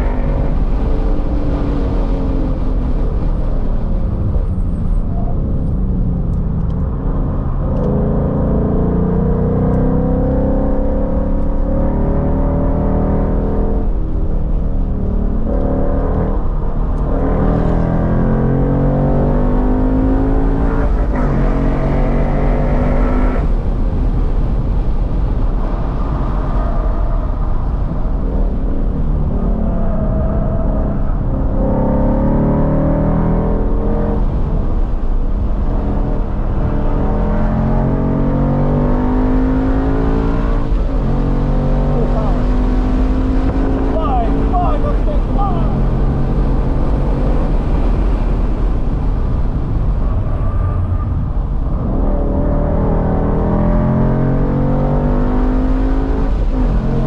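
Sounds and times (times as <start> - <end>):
car engine revving: 5.7 - 57.0.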